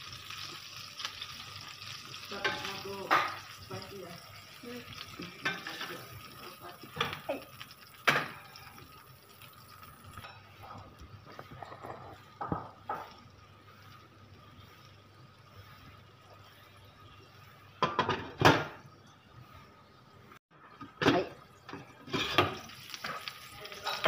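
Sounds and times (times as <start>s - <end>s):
oil sizzling in a frying pan: 0.0s - 24.0s.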